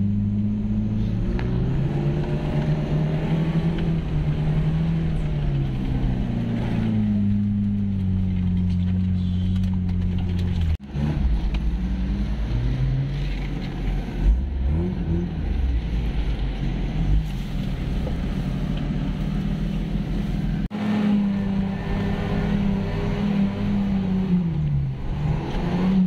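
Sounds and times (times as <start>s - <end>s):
engine revving inside cab: 0.0s - 26.0s.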